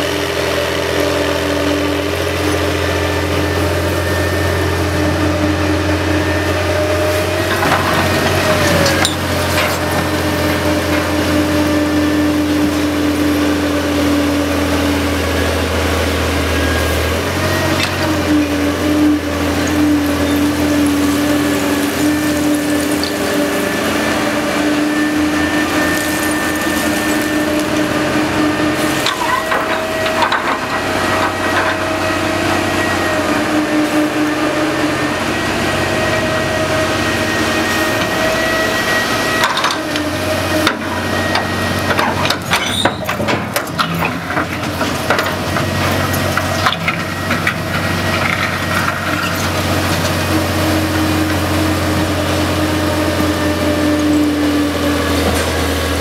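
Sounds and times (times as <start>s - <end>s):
engine running under load: 0.0s - 56.0s.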